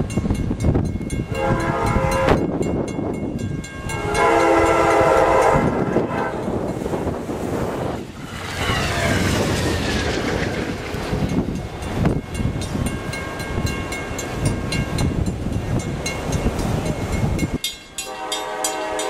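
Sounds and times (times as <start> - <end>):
falling whine of train: 0.0 - 19.0
train wheels rushing on rail: 0.0 - 19.0
wheels clicking over rail joints: 2.6 - 19.0.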